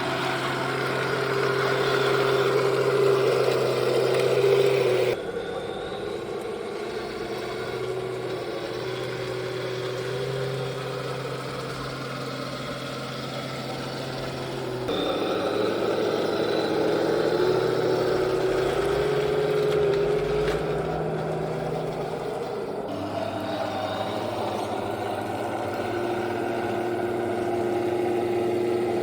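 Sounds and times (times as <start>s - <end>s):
simulated tank engine drone: 0.0s - 29.0s.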